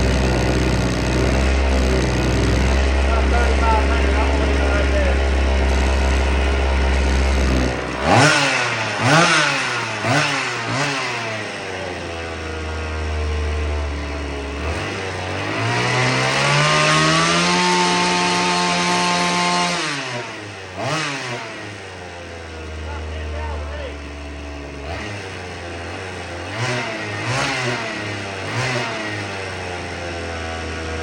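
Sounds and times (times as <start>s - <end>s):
chainsaw engine revving: 0.0s - 31.0s.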